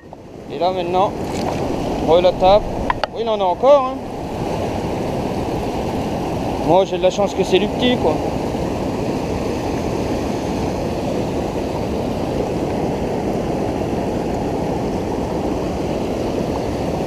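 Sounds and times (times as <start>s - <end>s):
river water rushing through rapids: 0.2s - 17.0s.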